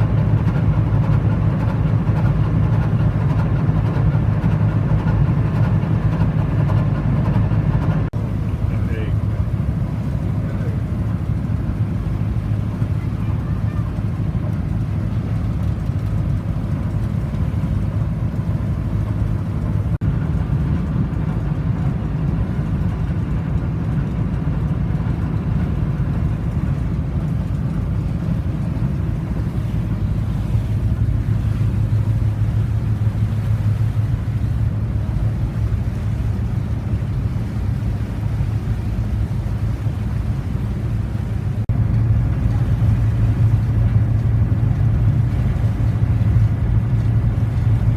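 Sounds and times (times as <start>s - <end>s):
marine diesel engine running: 0.0s - 47.9s.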